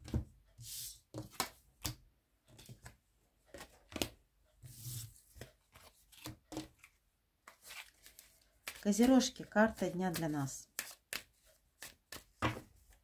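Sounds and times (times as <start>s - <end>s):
cards being shuffled: 2.6s - 13.0s.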